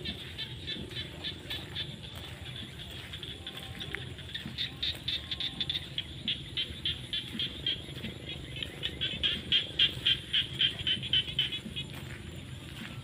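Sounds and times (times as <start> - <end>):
frogs calling: 0.0 - 13.0
steady low rumble: 0.0 - 13.0.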